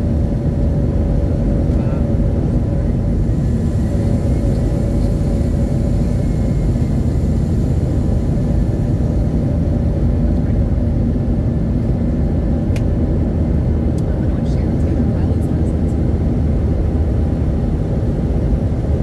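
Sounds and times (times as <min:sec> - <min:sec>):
faint steady hum: 0:00.0 - 0:19.0
jet engine rumble in cabin: 0:00.0 - 0:19.0.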